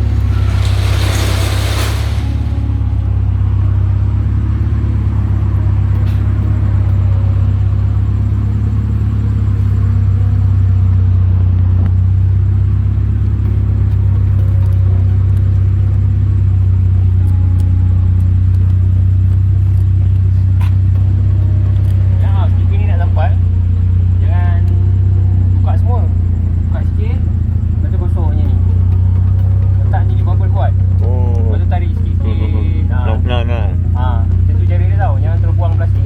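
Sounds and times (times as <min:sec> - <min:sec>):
car engine and exhaust drone: 0:00.0 - 0:36.0.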